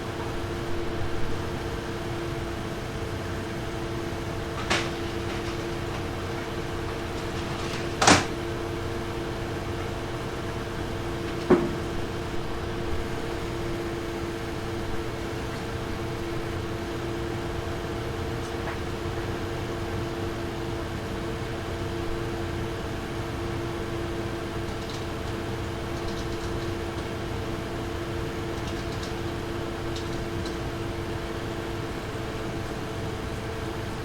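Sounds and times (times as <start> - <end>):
computer fans humming: 0.0 - 34.0.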